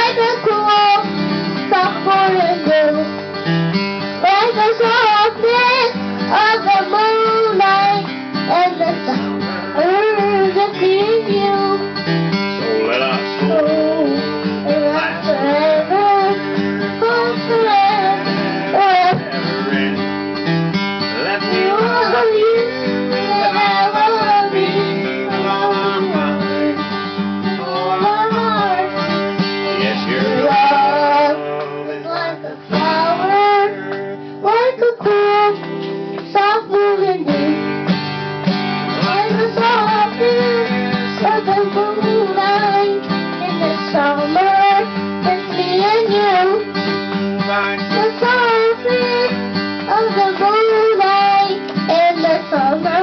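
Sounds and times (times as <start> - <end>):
child singing: 0.0 - 3.1, 4.2 - 11.9, 12.6 - 20.0, 21.2 - 26.9, 27.5 - 29.2, 29.8 - 37.7, 38.9 - 46.9, 47.7 - 53.0
bluegrass acoustic guitar music: 0.0 - 53.0.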